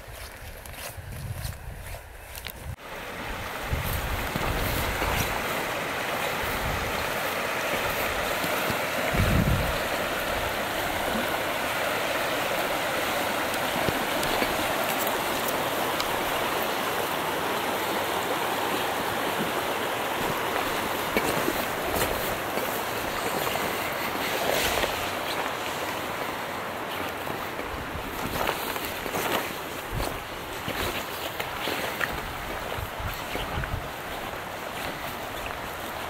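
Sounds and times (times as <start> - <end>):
river rushing over stones: 2.8 - 36.0.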